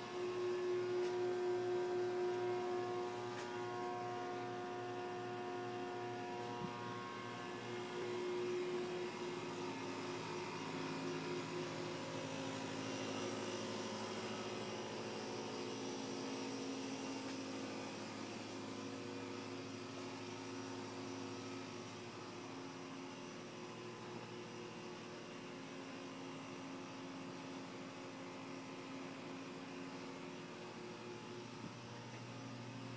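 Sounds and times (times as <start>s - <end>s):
machine hum with steady tones: 0.0s - 32.9s.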